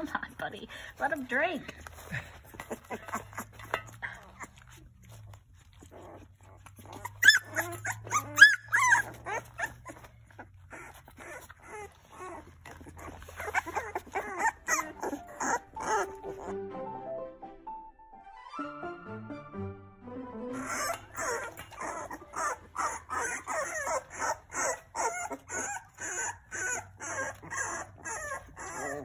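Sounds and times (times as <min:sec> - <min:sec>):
puppies whimpering: 0:01.8 - 0:16.6, 0:20.5 - 0:29.0.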